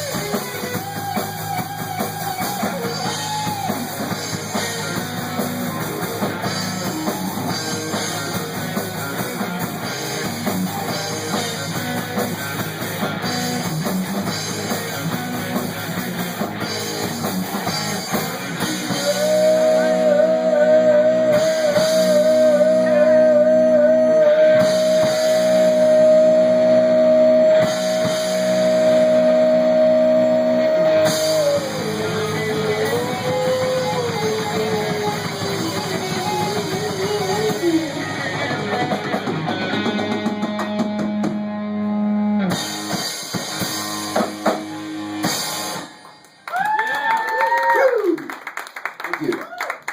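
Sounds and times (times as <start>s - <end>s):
rock music with guitar and drums: 0.0s - 46.4s.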